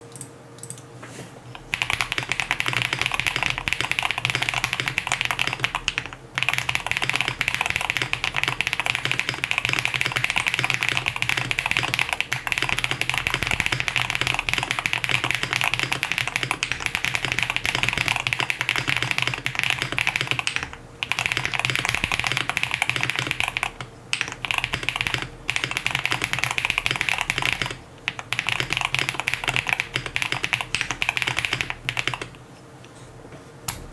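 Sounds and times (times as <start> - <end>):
mechanical keyboard typing: 1.6 - 32.4.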